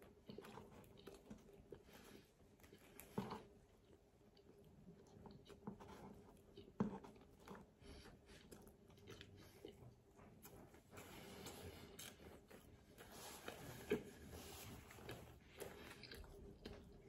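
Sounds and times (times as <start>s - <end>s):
person chewing pizza: 0.0s - 17.0s.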